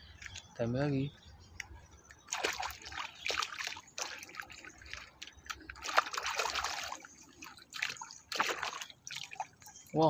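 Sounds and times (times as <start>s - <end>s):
water splashing and sloshing: 0.0s - 0.6s, 1.5s - 10.0s.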